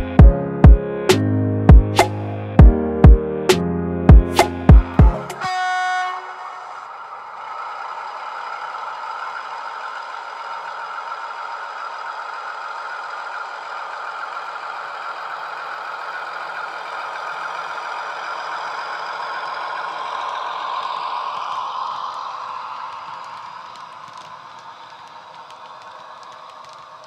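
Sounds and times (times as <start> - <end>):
diesel engine sound from small speaker: 4.1 - 27.0.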